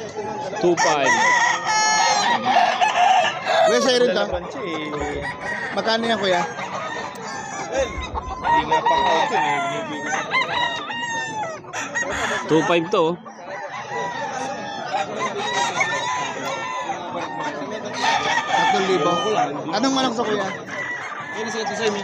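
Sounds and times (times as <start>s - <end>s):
hens clucking: 0.0s - 22.0s
roosters crowing: 0.1s - 22.0s.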